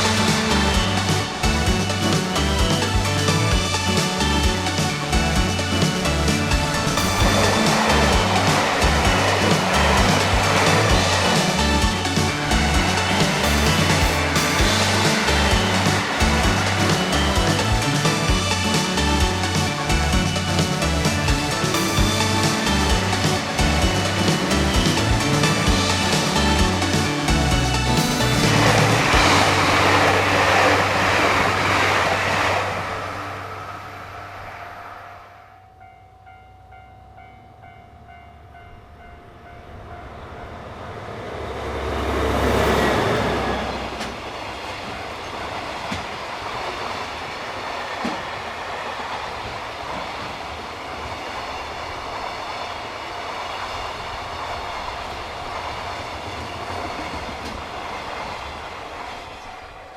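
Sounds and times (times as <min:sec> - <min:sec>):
train passing: 0:00.0 - 0:59.9
train wheels on rails: 0:00.0 - 0:59.9.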